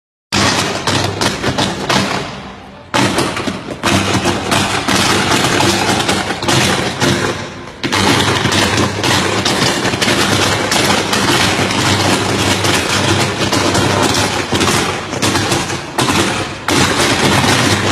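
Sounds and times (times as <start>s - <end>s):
firecrackers cracking: 0.3s - 17.9s.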